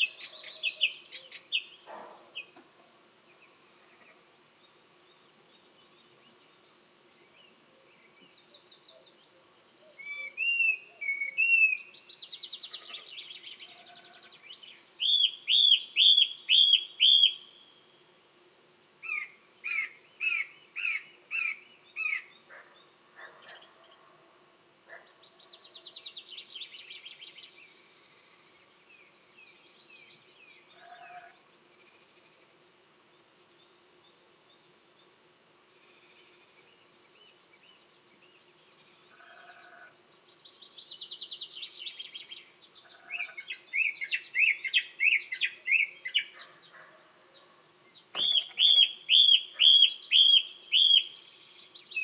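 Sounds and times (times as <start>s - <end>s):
song thrush singing: 0.0s - 18.1s, 19.0s - 24.0s, 24.9s - 52.0s.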